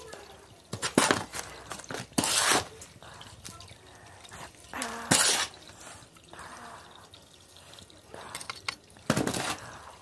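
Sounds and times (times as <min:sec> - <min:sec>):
grit trickling: 0:00.0 - 0:10.0.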